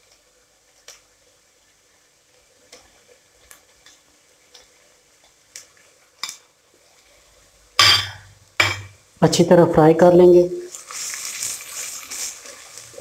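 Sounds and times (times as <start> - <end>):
onions frying: 0.0 - 13.0.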